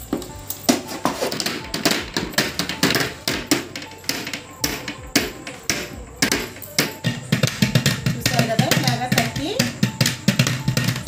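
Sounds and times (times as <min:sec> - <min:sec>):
hands slapping metal pot: 0:00.1 - 0:11.0.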